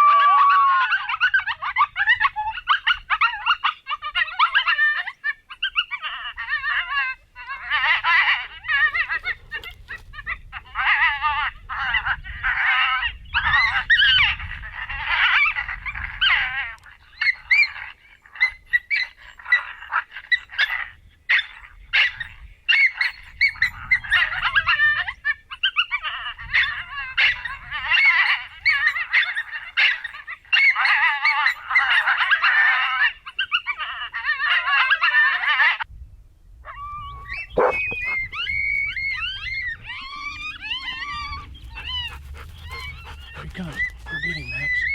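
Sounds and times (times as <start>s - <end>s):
coyotes yipping and howling: 0.0s - 35.9s, 36.6s - 44.9s.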